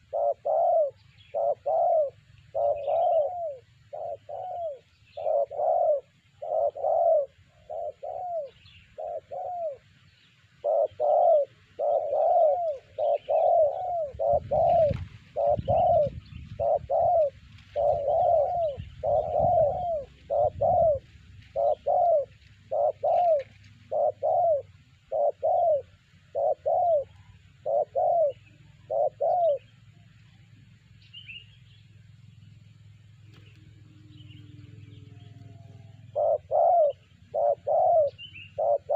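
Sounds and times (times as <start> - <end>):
dove cooing: 0.0 - 30.4, 33.1 - 38.9.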